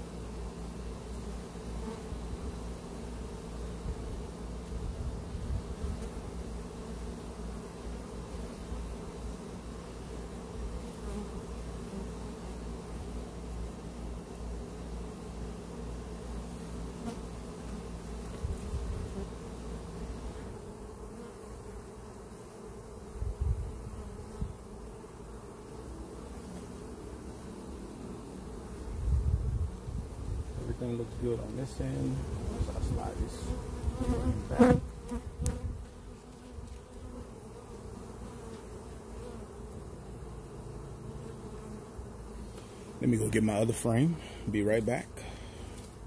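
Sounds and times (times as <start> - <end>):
bees buzzing: 0.0 - 46.0.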